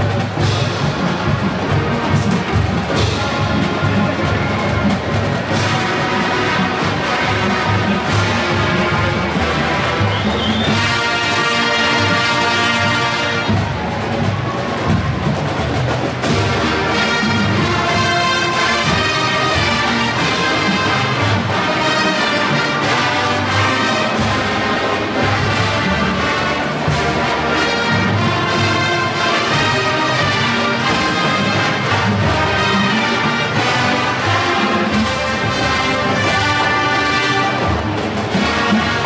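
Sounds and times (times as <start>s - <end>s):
percussion beat: 0.0s - 39.0s
brass playing: 0.3s - 14.0s, 16.2s - 39.0s.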